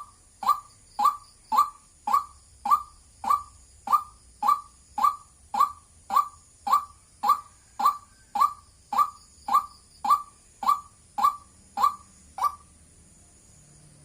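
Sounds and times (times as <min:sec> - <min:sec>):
bird calling: 0:00.0 - 0:12.8.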